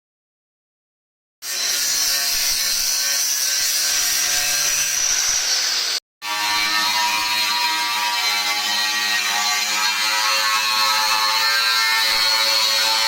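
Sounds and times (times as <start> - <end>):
power tool grinding steel: 1.4 - 13.0.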